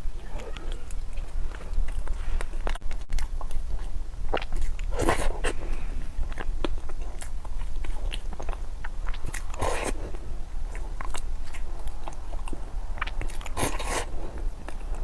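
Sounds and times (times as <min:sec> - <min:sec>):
chewing and biting mouth sounds: 0:00.0 - 0:15.0.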